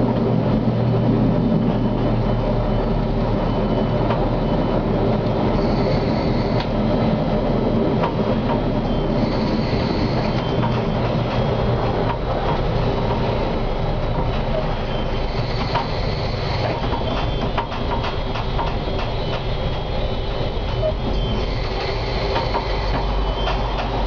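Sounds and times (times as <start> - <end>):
tram rumbling on rails: 0.0 - 24.0.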